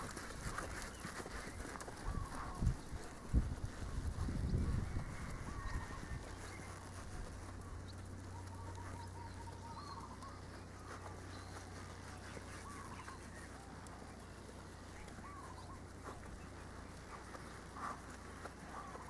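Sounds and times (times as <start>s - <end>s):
steady low hum: 0.0s - 19.0s
wavering bird calls: 0.7s - 3.2s, 4.4s - 19.0s.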